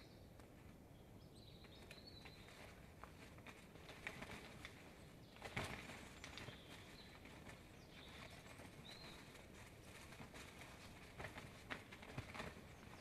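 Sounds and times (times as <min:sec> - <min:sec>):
songbirds chirping: 0:00.0 - 0:13.0
soft ticks and rustles: 0:00.3 - 0:00.8, 0:01.4 - 0:13.0.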